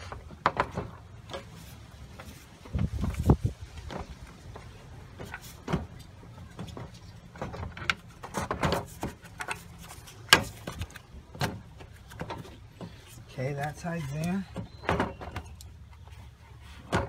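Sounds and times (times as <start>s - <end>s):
plastic and metal knocks and scrapes: 0.0s - 17.0s.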